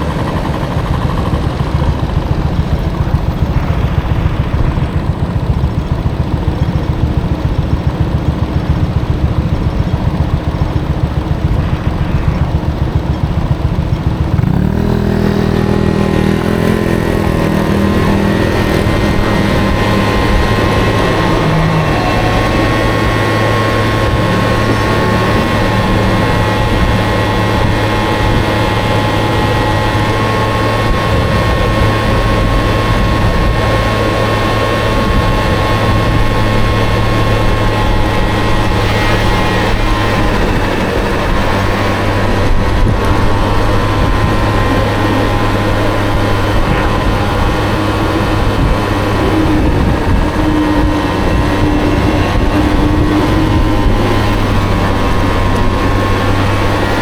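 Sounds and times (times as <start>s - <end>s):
low pulsing wind rumble: 0.0s - 57.0s
scooter engine running: 0.0s - 57.0s.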